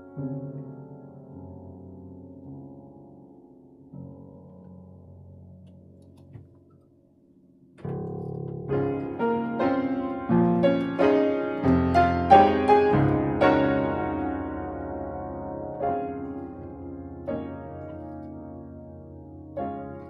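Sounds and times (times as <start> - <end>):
piano music: 0.0 - 6.3, 7.6 - 20.0.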